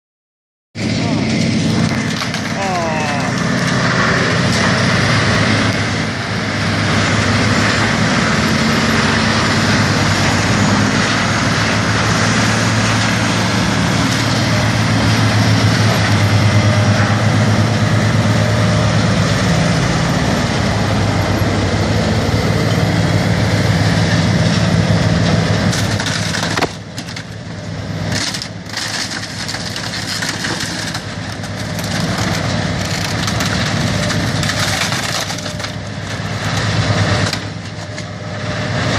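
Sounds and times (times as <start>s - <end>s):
engine-driven grinder running: 0.8s - 38.9s.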